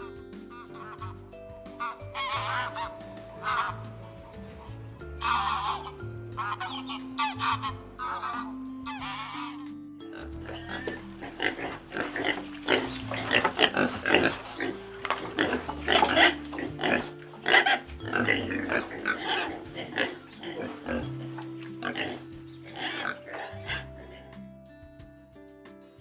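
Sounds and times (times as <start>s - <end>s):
background music with held notes: 0.0s - 26.0s
pigs grunting: 1.8s - 24.4s.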